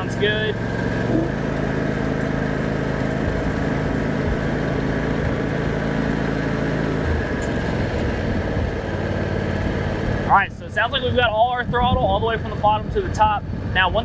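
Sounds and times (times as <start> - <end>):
riding mower engine running: 0.0 - 14.0.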